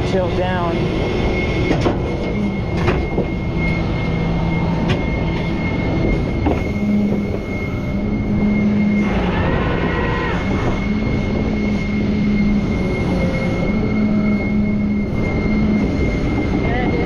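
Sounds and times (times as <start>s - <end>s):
hydraulic whine: 0.0s - 17.0s
truck engine drone: 0.0s - 17.0s.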